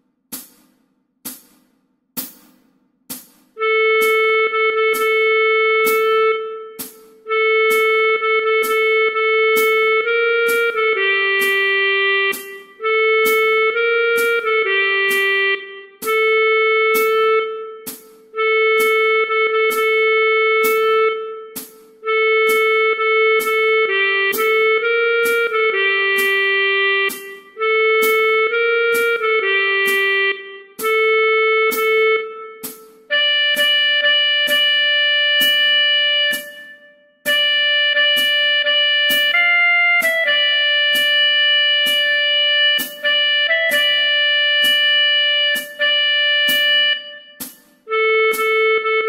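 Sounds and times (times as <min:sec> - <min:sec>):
metronome clicking: 0:00.3 - 0:49.0
clarinet slow melody: 0:03.6 - 0:49.0.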